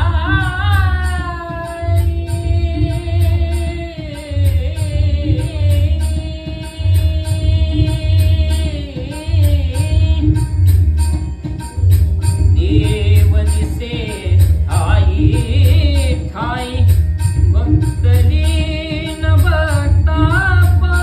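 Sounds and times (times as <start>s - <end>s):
man singing: 0.0s - 10.7s, 12.4s - 21.0s.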